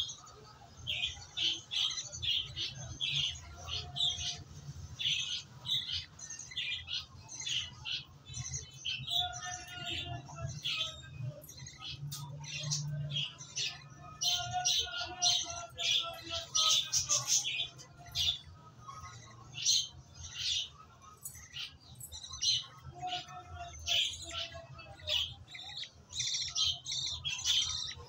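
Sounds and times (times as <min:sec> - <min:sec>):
chicks begging chirps: 0:00.0 - 0:28.0.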